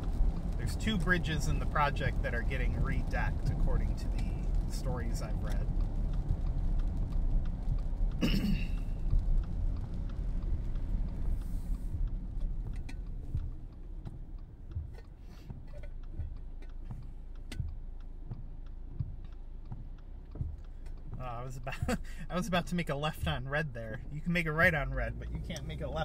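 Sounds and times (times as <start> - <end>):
faint ticks: 0.0 - 24.4
car road rumble with tyre hiss: 0.0 - 26.0.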